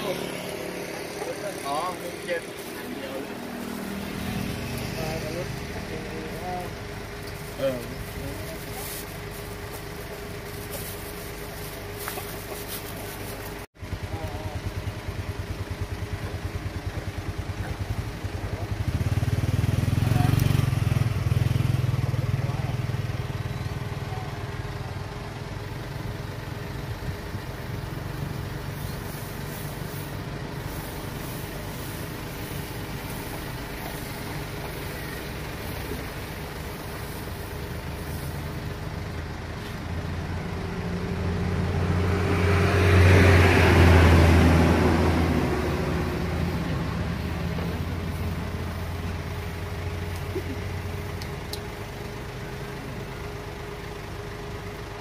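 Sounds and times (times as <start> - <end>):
motor vehicle passing: 0.0 - 13.7, 16.4 - 24.9, 25.9 - 53.1
low engine hum: 0.0 - 55.0.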